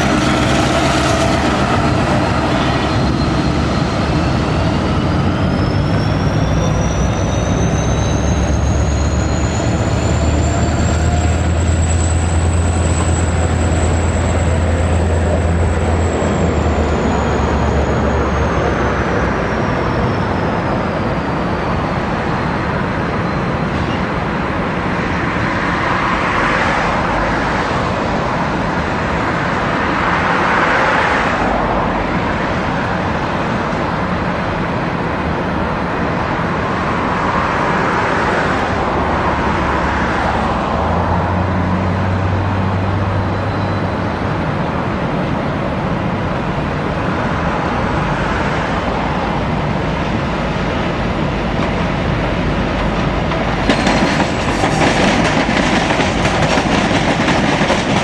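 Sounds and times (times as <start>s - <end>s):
locomotive engine drone: 0.0s - 58.0s
train wheels on rails: 0.0s - 58.0s.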